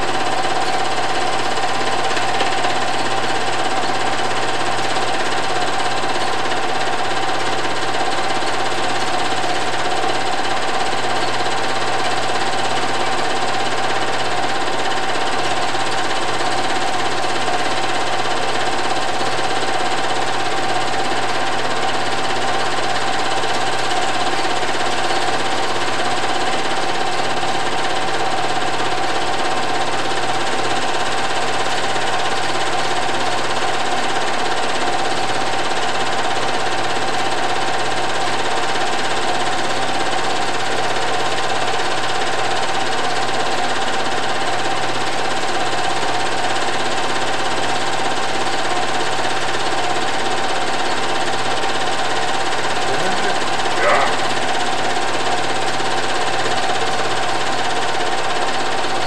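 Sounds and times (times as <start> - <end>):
movie projector whirring: 0.0 - 59.0.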